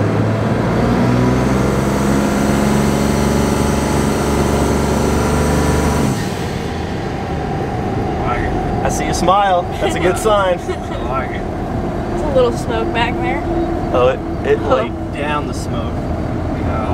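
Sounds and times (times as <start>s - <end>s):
diesel engine accelerating hard: 0.0s - 16.9s.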